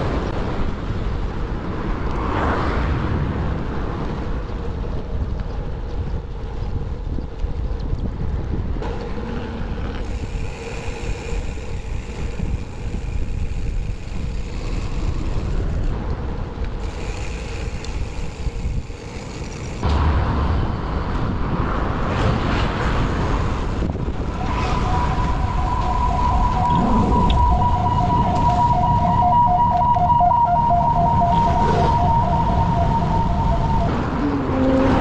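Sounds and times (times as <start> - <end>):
road and traffic noise: 0.0 - 35.0
wind rushing over microphone: 0.0 - 35.0.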